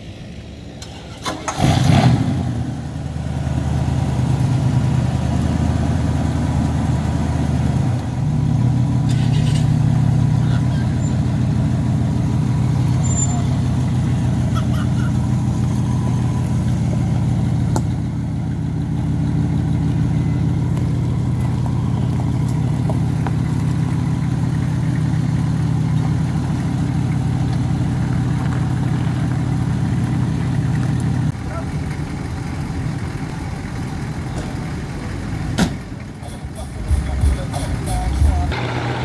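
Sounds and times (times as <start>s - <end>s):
car engine idling: 2.5s - 39.0s.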